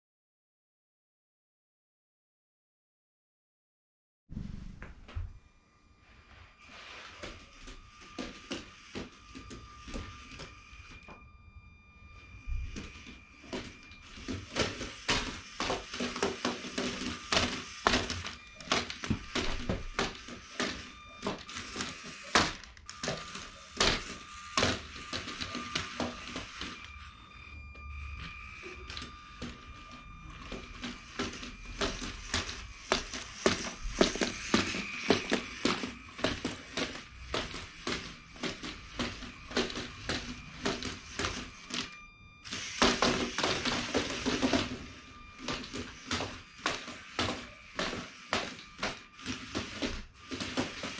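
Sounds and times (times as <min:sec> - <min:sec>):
electric motor whine: 0:05.0 - 0:50.9.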